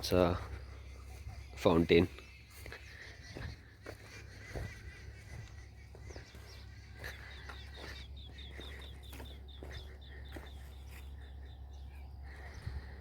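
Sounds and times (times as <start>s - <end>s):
scattered bird chirps: 0.2s - 12.8s.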